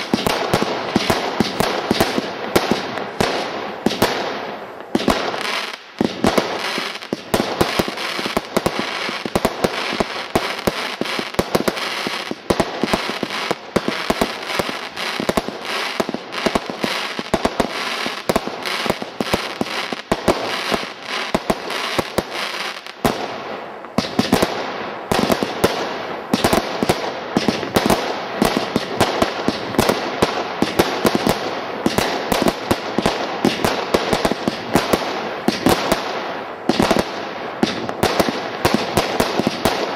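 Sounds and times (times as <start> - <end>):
firework barrage firing: 0.0 - 39.9.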